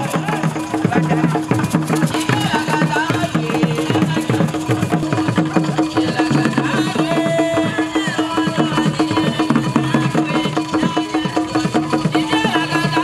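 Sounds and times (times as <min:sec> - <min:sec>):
drum ensemble playing: 0:00.0 - 0:13.0
hand percussion: 0:00.0 - 0:13.0.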